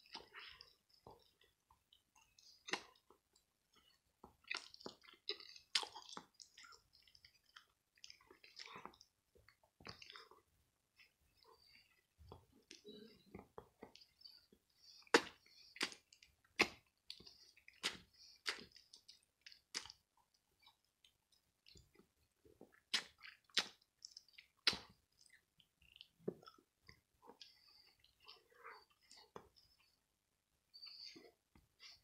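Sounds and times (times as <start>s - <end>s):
chewing sandwich: 0.0s - 32.0s.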